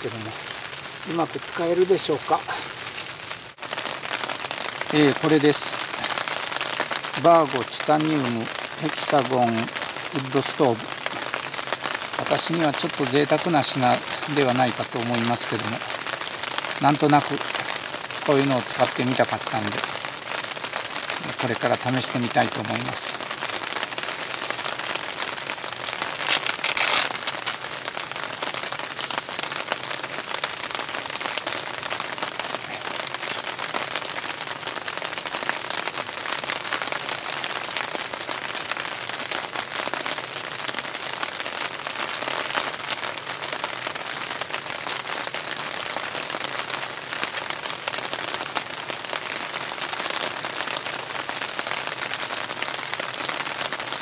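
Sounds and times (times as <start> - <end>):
heavy rain on shelter: 0.0 - 54.0.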